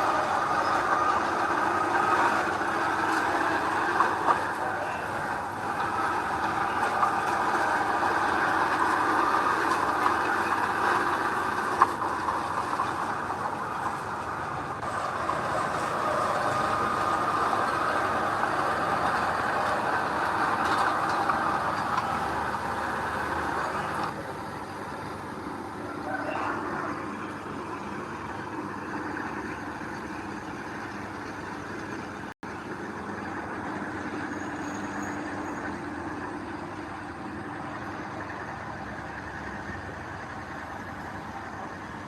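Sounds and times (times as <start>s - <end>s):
heavy earthmoving machinery running: 0.0s - 42.0s
machinery clanks: 0.0s - 42.0s.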